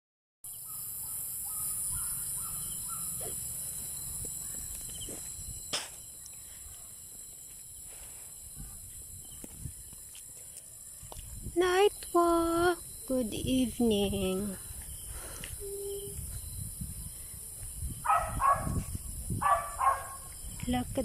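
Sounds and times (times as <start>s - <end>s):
insects chirring: 0.5s - 21.0s.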